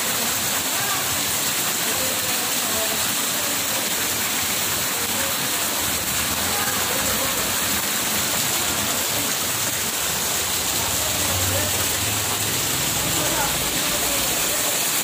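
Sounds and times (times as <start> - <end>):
water rushing over concrete: 0.0 - 15.0.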